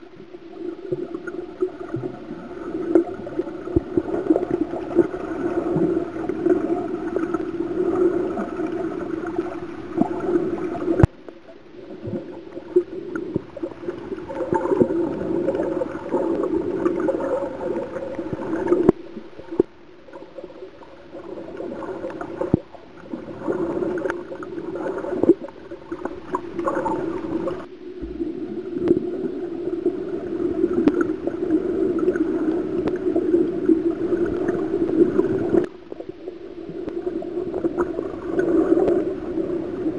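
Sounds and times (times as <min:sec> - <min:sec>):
gurgling water: 0:00.0 - 0:39.9
low underwater hum: 0:00.0 - 0:39.9.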